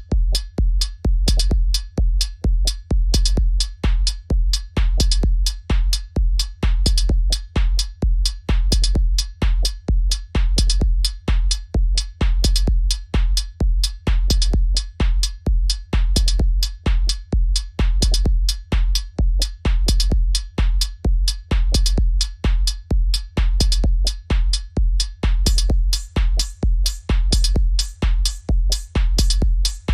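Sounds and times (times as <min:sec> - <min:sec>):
deep kick drum: 0:00.0 - 0:29.9.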